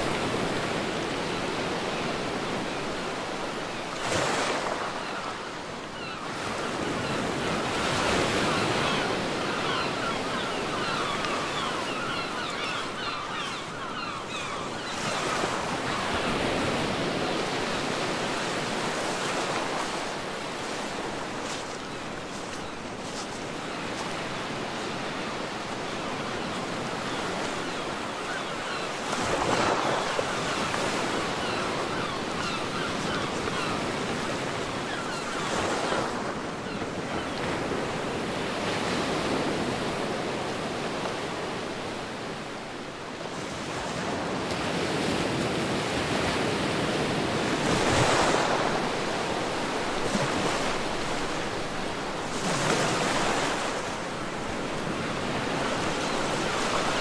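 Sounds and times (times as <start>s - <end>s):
ocean surf breaking on a beach: 0.0s - 57.0s.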